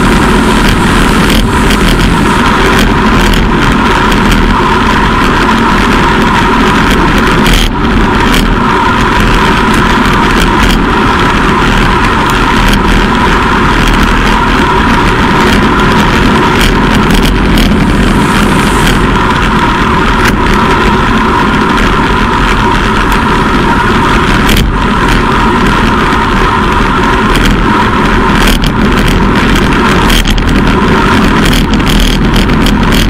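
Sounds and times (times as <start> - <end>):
bicycle tyres on asphalt: 0.0 - 33.0
wind rushing on microphone: 0.0 - 33.0.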